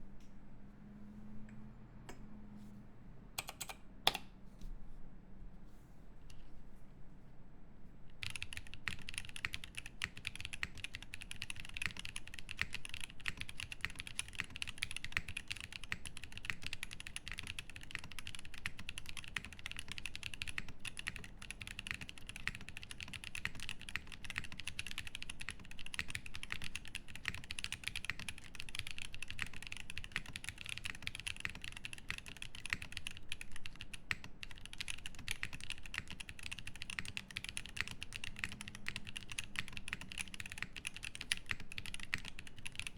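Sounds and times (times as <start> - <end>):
fast typing on mechanical keyboard: 3.4 - 4.2, 8.2 - 42.9.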